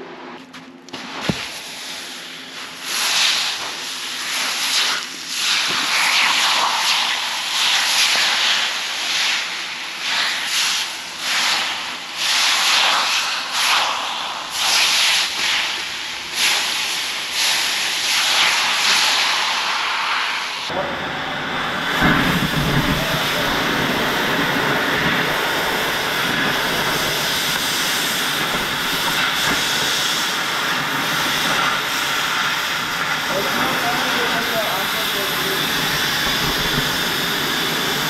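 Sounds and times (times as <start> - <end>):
hot steel sizzling in snow: 1.0 - 20.6, 21.9 - 38.0.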